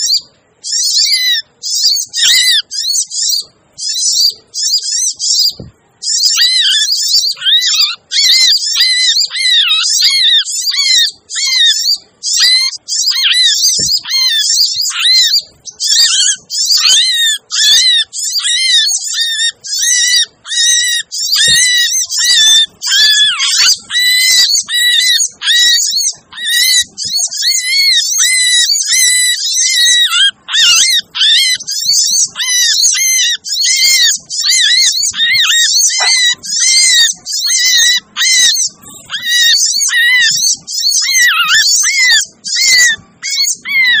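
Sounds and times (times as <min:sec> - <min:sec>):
sunbirds chirping and chattering: 0:00.0 - 0:44.0.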